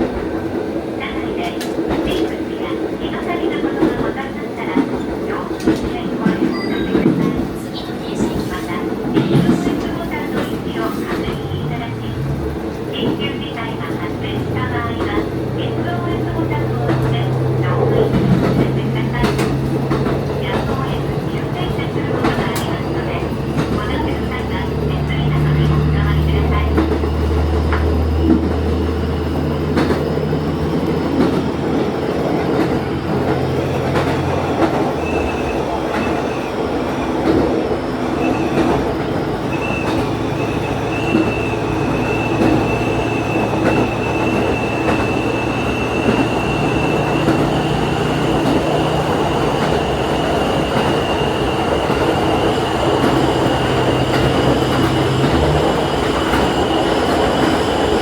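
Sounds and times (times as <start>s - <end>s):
wheels rumbling on track: 0.0s - 58.0s.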